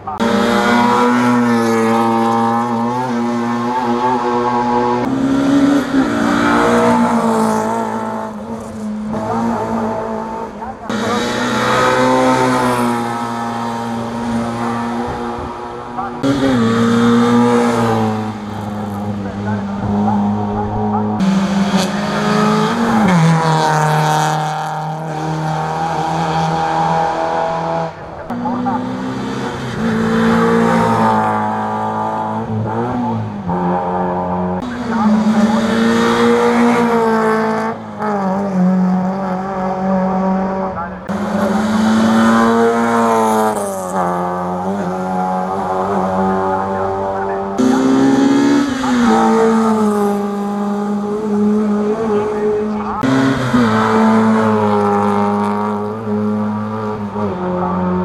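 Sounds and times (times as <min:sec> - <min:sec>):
rally car engine at high revs: 0:00.0 - 0:58.0.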